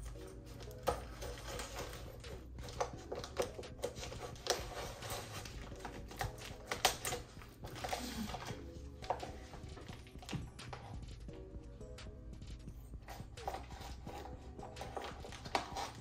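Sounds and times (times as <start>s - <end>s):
scissors snipping plastic: 0.0s - 10.8s, 13.3s - 16.0s.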